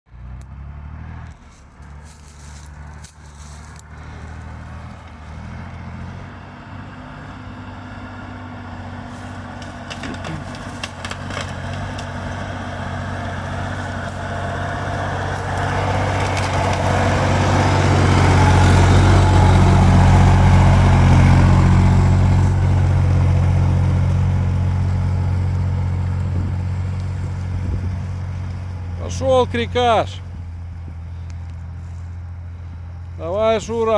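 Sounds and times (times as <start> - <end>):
truck engine running under load: 0.1 - 33.9.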